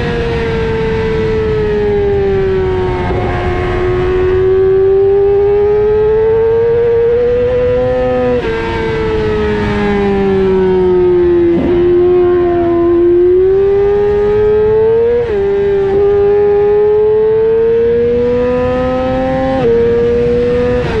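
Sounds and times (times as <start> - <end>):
sportbike engine at high revs: 0.0 - 21.0.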